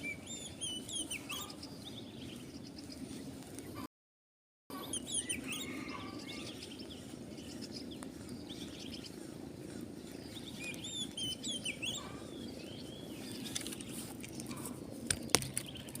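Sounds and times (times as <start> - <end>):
small birds chirping: 0.0 - 3.9, 4.7 - 16.0.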